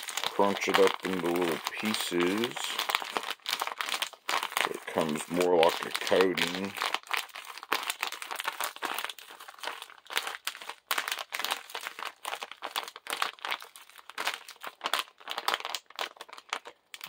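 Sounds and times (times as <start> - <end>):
fried onions crunching: 0.0 - 17.0
plastic bag crinkling: 0.0 - 17.0.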